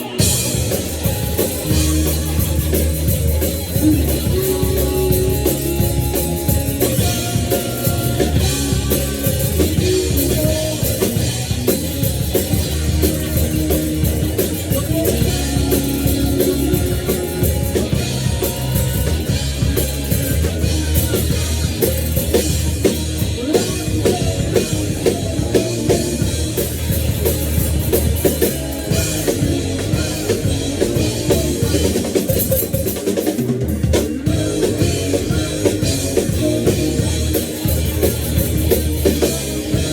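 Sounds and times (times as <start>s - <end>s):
drum kit playing rock beat: 0.0s - 39.9s
heavy metal backing track: 0.0s - 39.9s.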